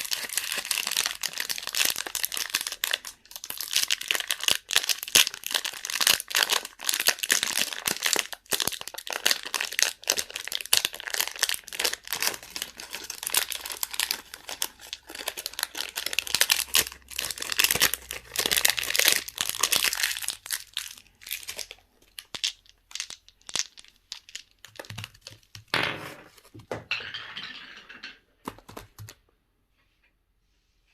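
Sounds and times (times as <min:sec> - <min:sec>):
candy wrappers crinkling: 0:00.0 - 0:25.7.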